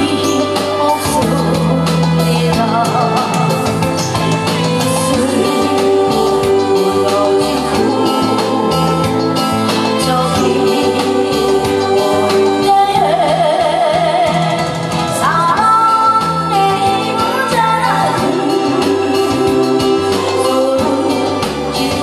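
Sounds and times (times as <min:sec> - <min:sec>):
amplified music with steady beat: 0:00.0 - 0:22.0
woman singing into microphone: 0:00.0 - 0:22.0.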